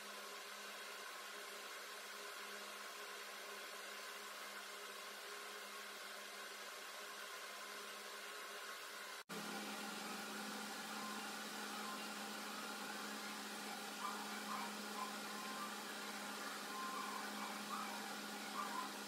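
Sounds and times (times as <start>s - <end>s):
low hum with hiss: 0.0s - 19.0s.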